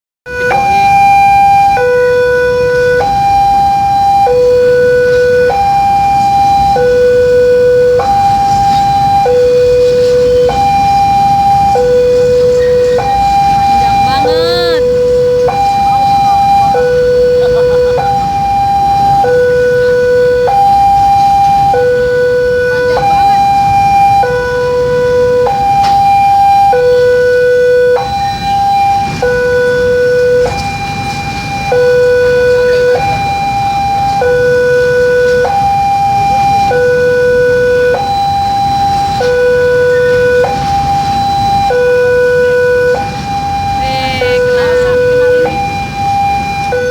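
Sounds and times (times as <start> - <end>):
two-tone crossing alarm: 0.2 - 46.9.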